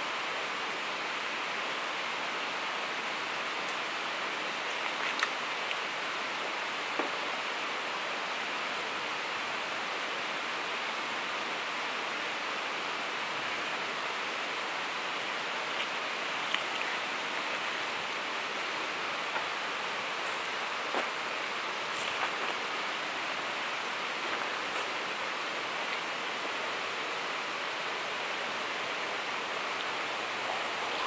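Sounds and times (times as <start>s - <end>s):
shallow river running over rocks: 0.0s - 31.0s.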